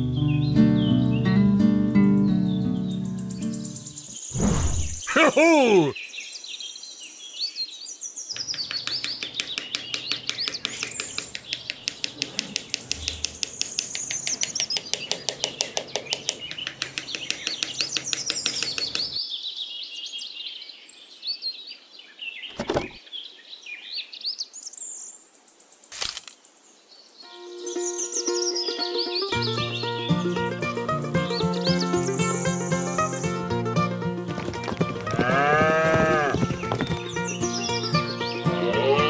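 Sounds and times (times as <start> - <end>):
birds chirping and singing: 0.0 - 25.2, 26.5 - 39.0.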